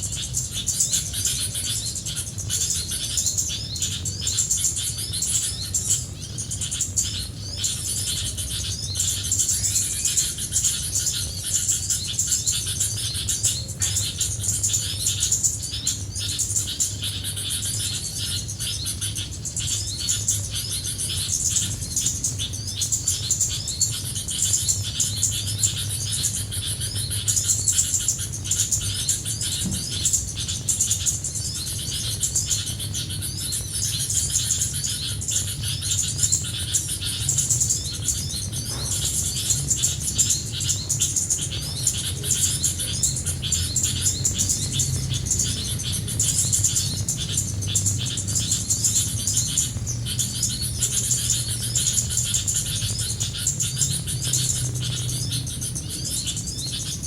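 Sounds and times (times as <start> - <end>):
many small birds chirping: 0.0 - 57.0
steady low hum: 0.0 - 57.0.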